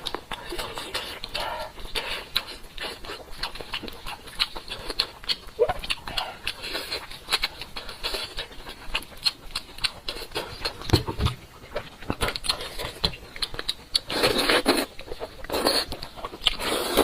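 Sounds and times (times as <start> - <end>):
chewing and mouth smacks: 0.0 - 17.0.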